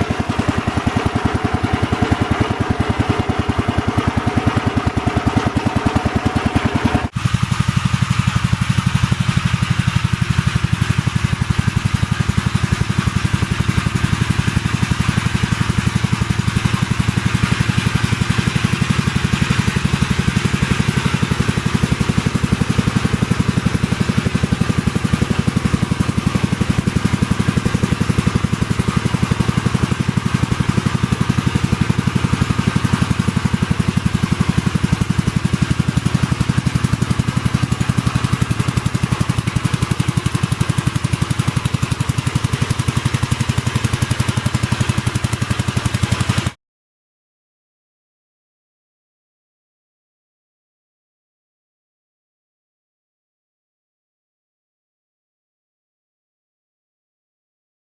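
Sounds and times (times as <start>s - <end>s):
walk-behind tractor engine running: 0.0s - 46.6s.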